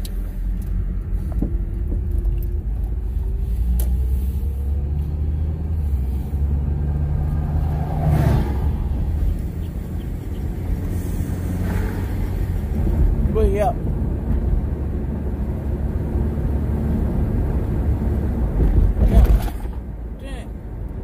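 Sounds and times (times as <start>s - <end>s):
car engine and road rumble: 0.0s - 21.0s
passing vehicle whoosh: 2.9s - 19.9s.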